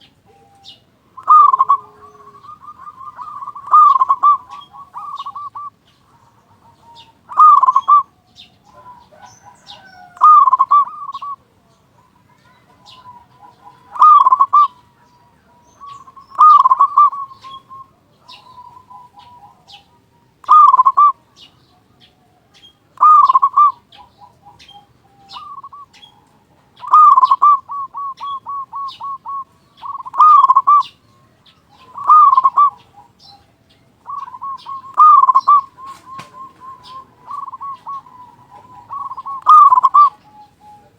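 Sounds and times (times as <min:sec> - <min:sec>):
dove repeated note runs: 0:00.0 - 0:11.4, 0:12.8 - 0:21.2, 0:23.0 - 0:31.0, 0:31.7 - 0:40.9
dove cooing: 0:00.0 - 0:40.9
small birds chirping: 0:00.0 - 0:40.9.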